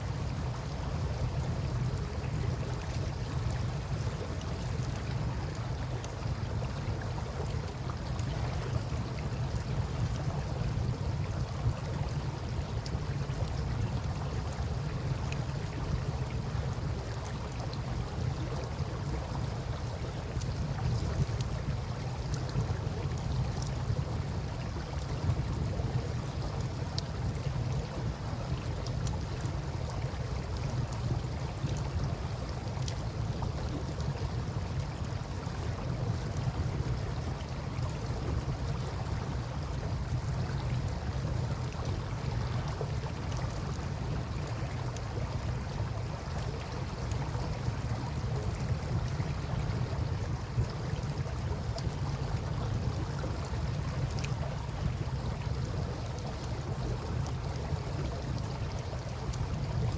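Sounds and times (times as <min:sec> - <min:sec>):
river water rumbling: 0:00.0 - 0:59.9.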